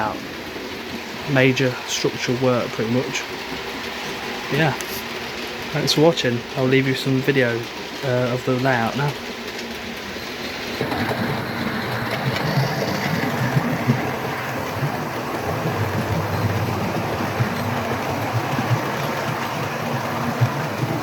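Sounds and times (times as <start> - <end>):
model train running: 0.0 - 21.0
wheels clicking over rails: 0.0 - 21.0.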